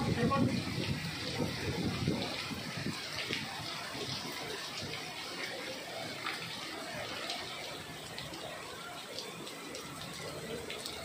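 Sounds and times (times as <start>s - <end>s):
drips and splashes: 0.0s - 11.0s
heavy rain on pavement: 0.0s - 11.0s.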